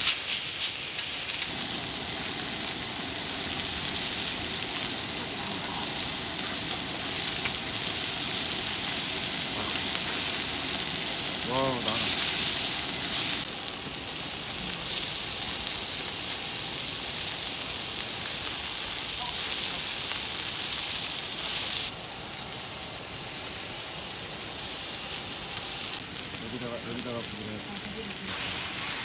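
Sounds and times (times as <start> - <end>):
meat sizzling: 0.0 - 29.0.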